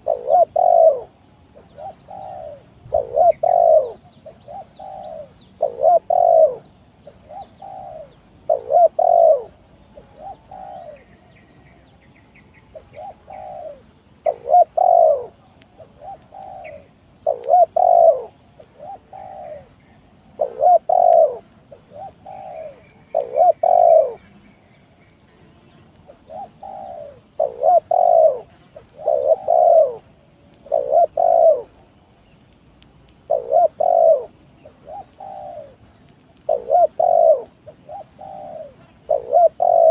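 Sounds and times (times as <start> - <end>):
dove cooing: 0.0 - 11.2, 12.7 - 19.8, 20.4 - 24.3, 26.1 - 31.8, 33.2 - 39.9.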